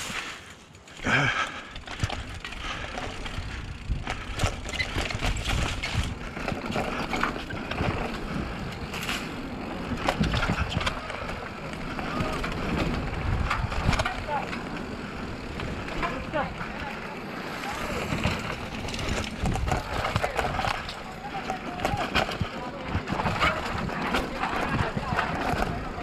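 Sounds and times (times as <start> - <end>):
mountain bike rattling: 0.0 - 26.0.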